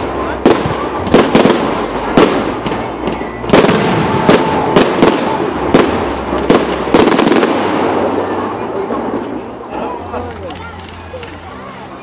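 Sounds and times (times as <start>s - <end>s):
fireworks bangs: 0.0s - 11.0s
fireworks crackling: 0.0s - 12.0s.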